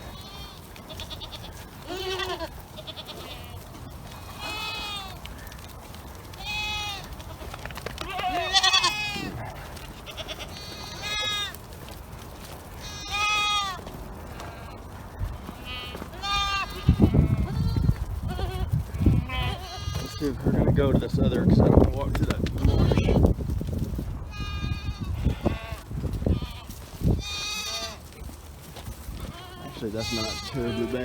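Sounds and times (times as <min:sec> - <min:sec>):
goats bleating: 0:00.0 - 0:11.7, 0:12.7 - 0:23.4, 0:24.3 - 0:31.0.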